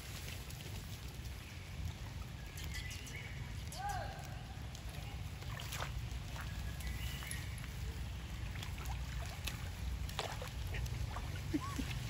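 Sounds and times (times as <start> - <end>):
monkeys splashing in puddle: 0.0 - 12.0.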